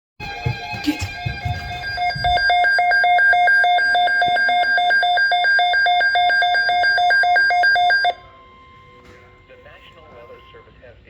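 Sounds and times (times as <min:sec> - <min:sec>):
two-tone electronic alert: 0:01.0 - 0:10.8.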